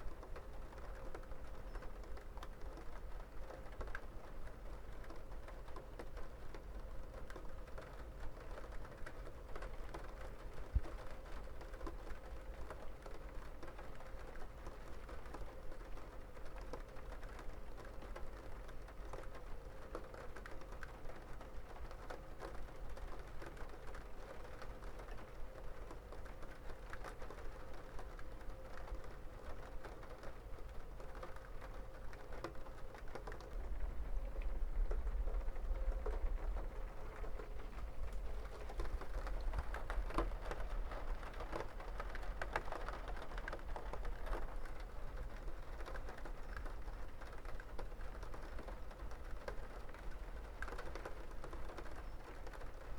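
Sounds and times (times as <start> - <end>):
rain pattering on hard surface: 0.0 - 52.9.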